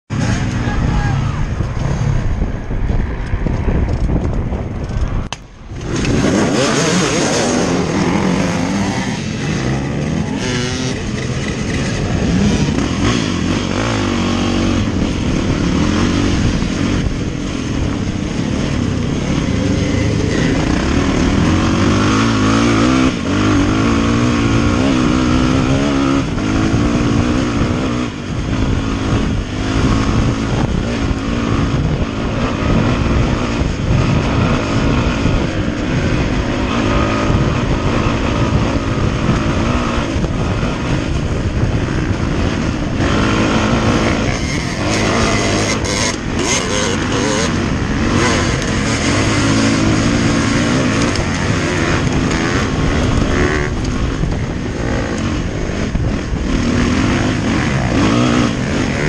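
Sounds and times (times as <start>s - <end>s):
dirt bike engine revving: 5.7s - 59.0s.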